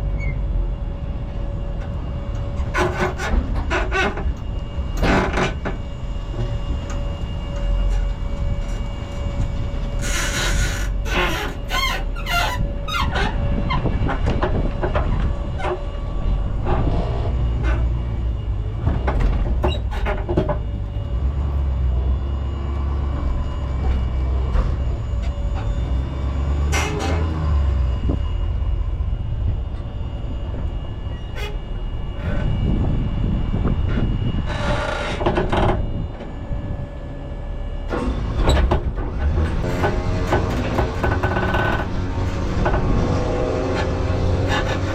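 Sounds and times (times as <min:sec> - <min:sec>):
heavy truck engine rumbling: 0:00.0 - 0:44.9.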